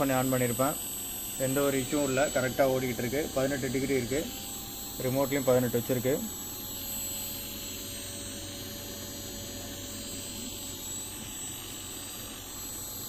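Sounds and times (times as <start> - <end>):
air conditioner humming: 0.0 - 12.7.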